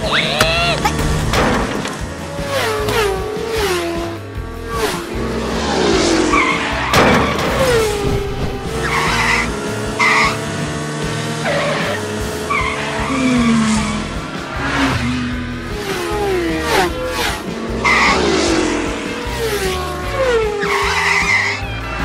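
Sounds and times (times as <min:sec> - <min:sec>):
tyres screeching: 0:00.0 - 0:10.5, 0:11.4 - 0:22.0
background music: 0:00.0 - 0:22.0
car engine noise: 0:00.0 - 0:22.0.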